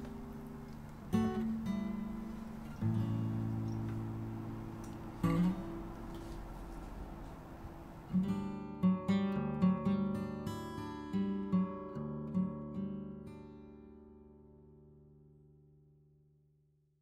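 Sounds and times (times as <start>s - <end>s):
acoustic guitar chords: 0.0s - 16.5s.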